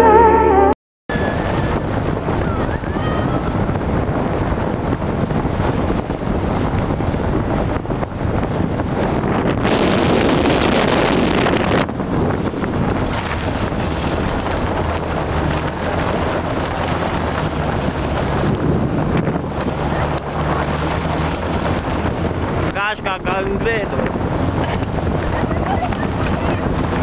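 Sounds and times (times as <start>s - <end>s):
wind rushing over microphone: 1.1s - 27.0s.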